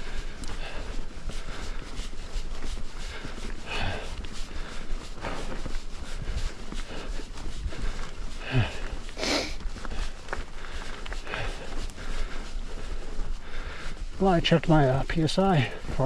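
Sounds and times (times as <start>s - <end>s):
person breathing hard: 0.0s - 14.4s, 15.4s - 16.0s.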